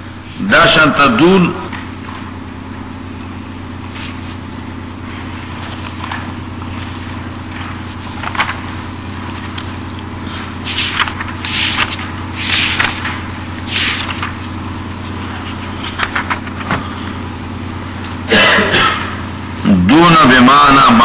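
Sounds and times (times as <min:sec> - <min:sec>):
low hum with hiss: 0:00.0 - 0:21.0.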